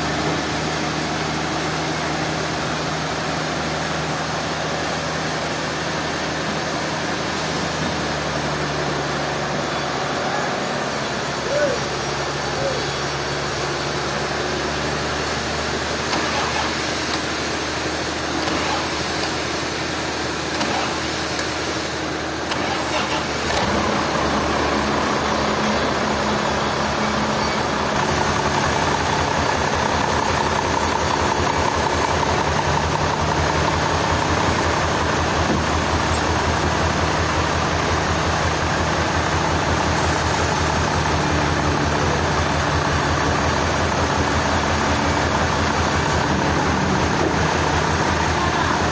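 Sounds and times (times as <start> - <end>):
engine throbbing: 0.0 - 48.9.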